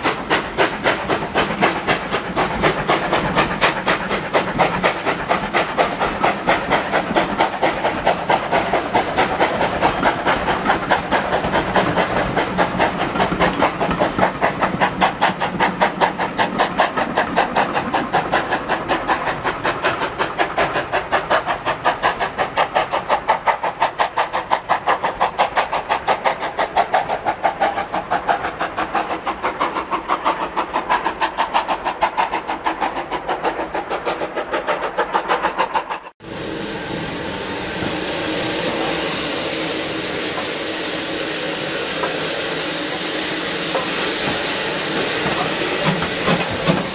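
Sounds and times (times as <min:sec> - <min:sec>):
steady steam hiss: 0:00.0 - 0:46.9
steam locomotive chuffing: 0:00.0 - 0:46.9.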